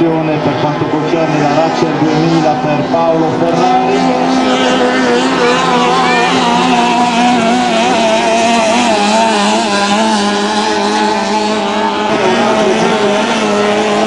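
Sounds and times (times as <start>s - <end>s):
racing boat engine running: 0.0s - 14.0s.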